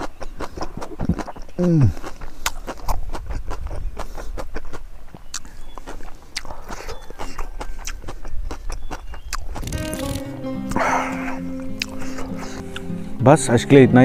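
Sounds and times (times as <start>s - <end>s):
man chewing with lip smacks: 0.0s - 10.8s, 11.5s - 12.9s.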